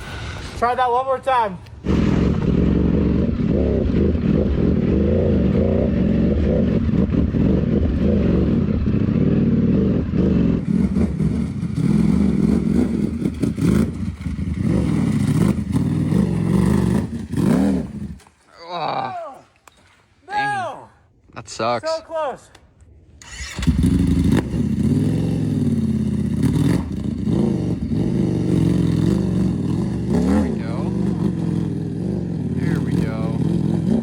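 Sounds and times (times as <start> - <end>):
motorcycle engine revving: 0.0 - 18.4, 23.2 - 34.0.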